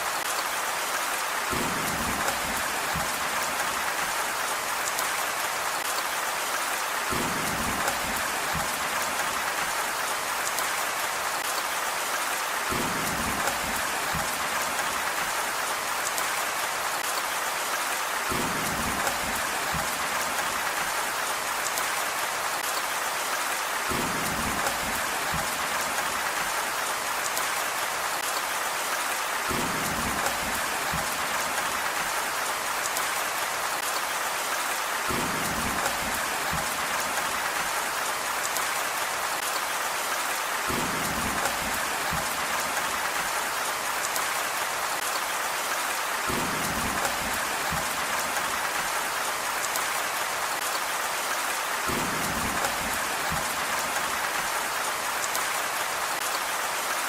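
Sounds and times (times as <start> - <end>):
rain hiss: 0.0 - 57.0.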